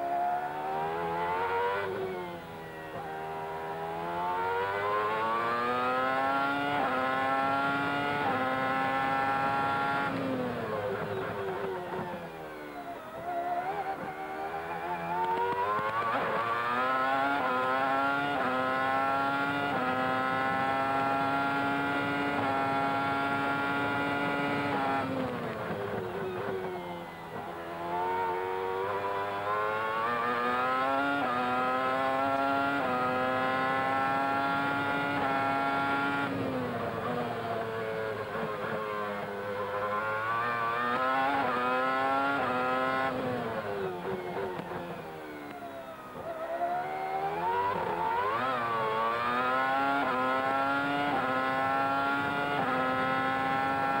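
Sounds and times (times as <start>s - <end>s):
engine downshifting under braking: 0.0s - 54.0s
racing car engine at full throttle: 0.0s - 54.0s.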